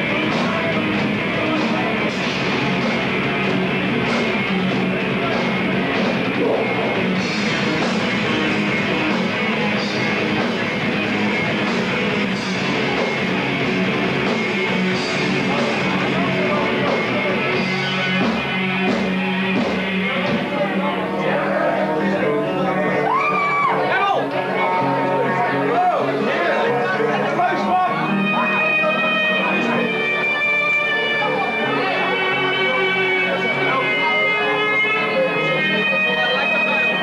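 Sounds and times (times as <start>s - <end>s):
drums: 0.0s - 37.0s
electric guitar: 0.0s - 37.0s
metal band playing live: 0.0s - 37.0s.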